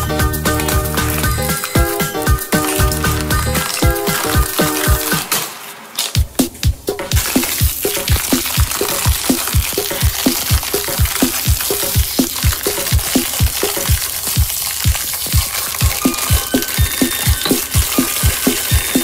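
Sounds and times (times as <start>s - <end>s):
background music with beat: 0.0s - 5.3s, 6.2s - 19.0s
foil wrapper crinkling: 0.4s - 6.5s, 7.1s - 19.0s.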